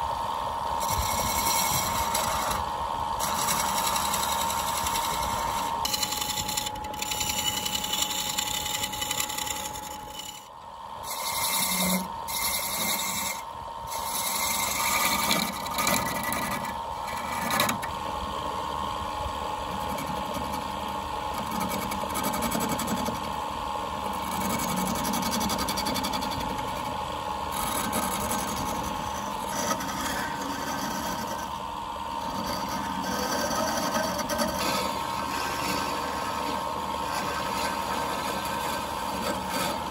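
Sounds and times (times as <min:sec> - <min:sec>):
wood lathe motor humming: 0:00.0 - 0:39.9
turning tool scraping wood: 0:00.7 - 0:17.9, 0:19.7 - 0:20.7, 0:21.3 - 0:23.3, 0:24.1 - 0:39.9.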